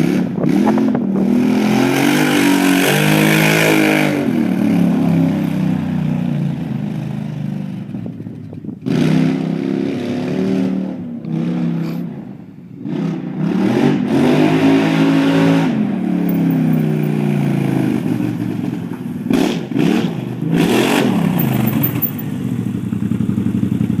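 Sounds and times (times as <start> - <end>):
engine revving: 0.0 - 7.6, 8.8 - 22.2.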